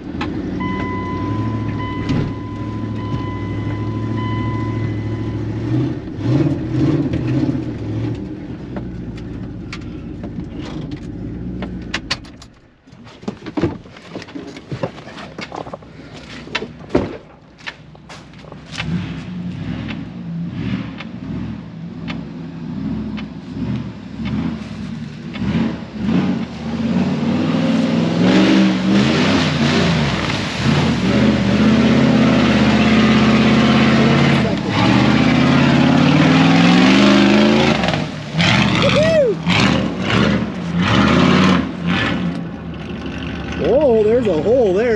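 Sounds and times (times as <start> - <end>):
truck engine revving: 0.0 - 12.1, 18.0 - 44.9.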